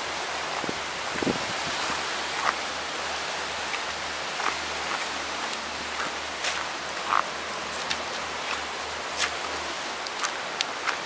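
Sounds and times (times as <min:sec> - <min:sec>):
sea water washing on rocks: 0:00.0 - 0:11.0.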